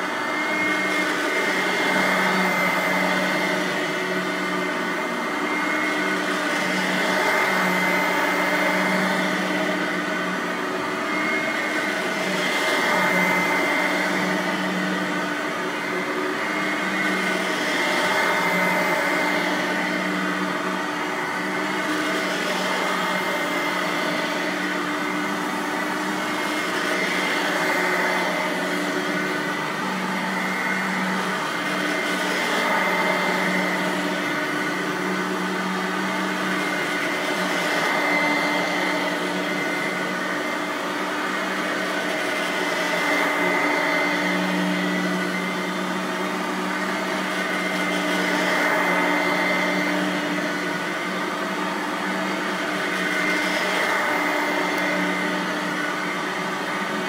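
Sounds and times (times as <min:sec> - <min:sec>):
upright vacuum motor humming: 0:00.0 - 0:57.0
vacuum brush roll on carpet: 0:00.0 - 0:57.0.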